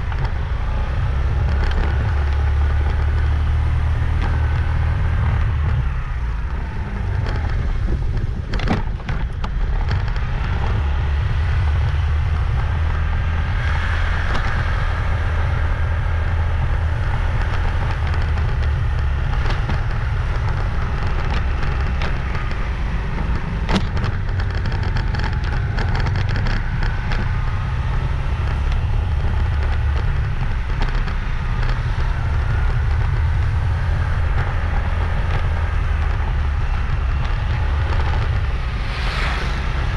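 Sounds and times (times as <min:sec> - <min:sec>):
motorbike engine: 0:00.0 - 0:39.9
wind rumble on microphone: 0:00.0 - 0:39.9.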